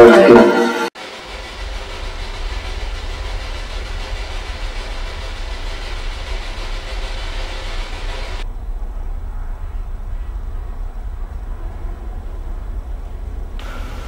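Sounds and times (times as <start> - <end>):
steady low rumble: 1.0 - 14.0.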